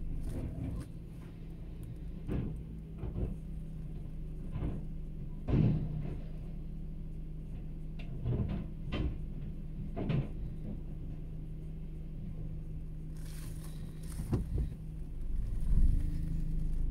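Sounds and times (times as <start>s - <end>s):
garbage truck engine humming: 0.0s - 16.9s.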